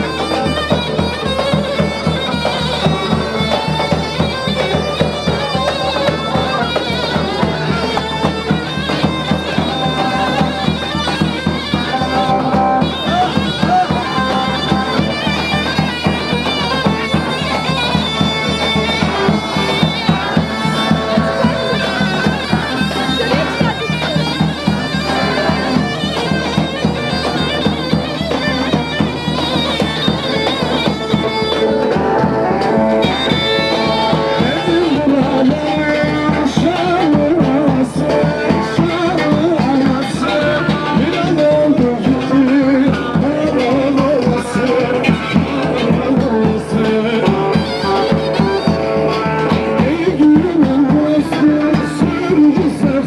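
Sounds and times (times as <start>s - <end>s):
driving drum beat: 0.0s - 53.0s
reedy wind instrument melody: 0.0s - 53.0s.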